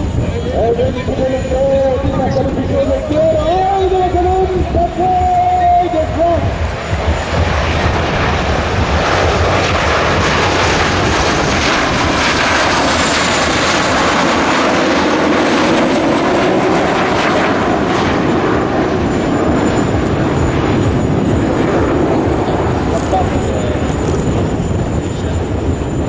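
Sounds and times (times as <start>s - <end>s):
jets roaring past: 0.0s - 26.0s.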